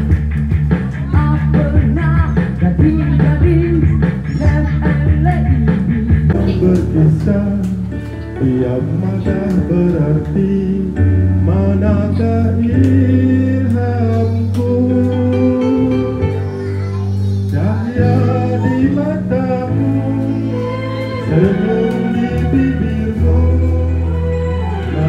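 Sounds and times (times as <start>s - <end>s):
backing track with guitar and bass: 0.0s - 25.0s
man singing into a microphone: 1.2s - 16.6s, 17.5s - 25.0s.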